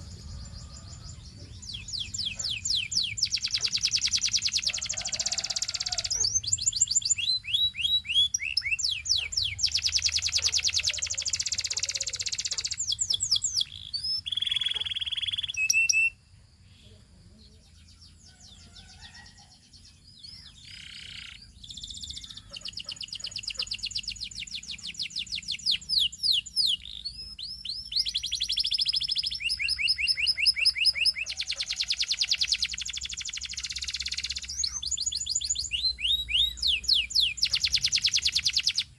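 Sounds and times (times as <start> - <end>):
canary singing fast trills: 0.0 - 16.8, 17.7 - 38.9.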